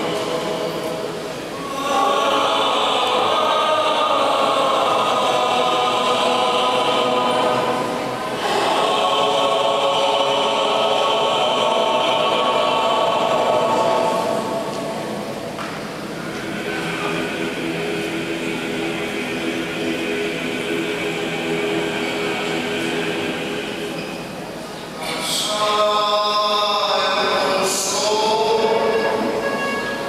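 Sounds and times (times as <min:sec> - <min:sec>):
choir chanting: 0:00.0 - 0:30.0.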